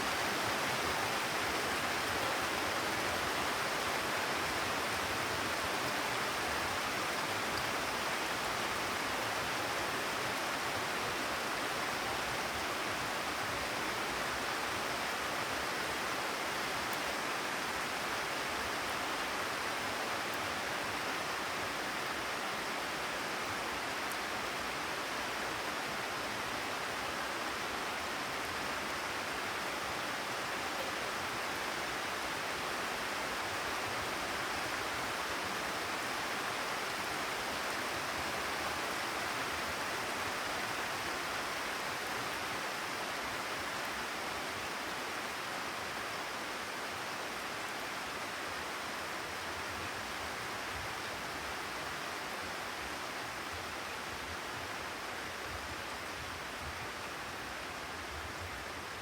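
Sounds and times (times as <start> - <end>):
steady rain on a terrace: 0.0 - 59.0.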